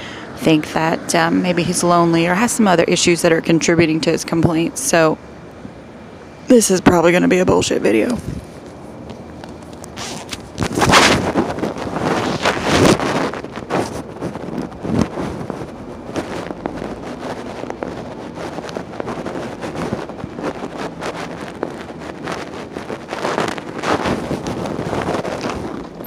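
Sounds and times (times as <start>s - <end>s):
wind on phone microphone: 0.0s - 26.0s.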